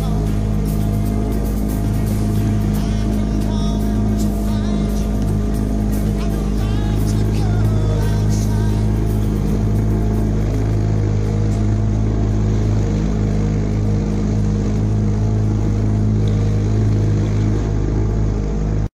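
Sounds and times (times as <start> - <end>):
boat through choppy water: 0.0 - 18.9
outboard motor running: 0.0 - 18.9.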